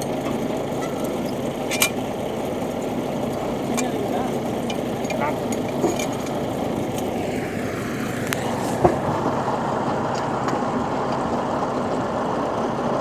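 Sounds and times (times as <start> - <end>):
rig engine running: 0.0 - 13.0.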